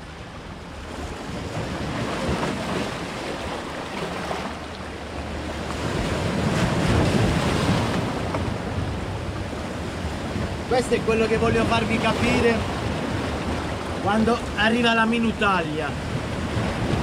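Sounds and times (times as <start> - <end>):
sea waves breaking on rocks: 0.0 - 17.0.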